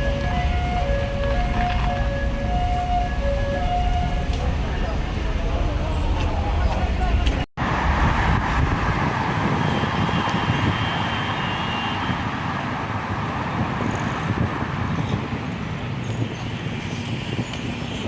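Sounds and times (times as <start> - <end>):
passing vehicles: 0.0 - 18.0.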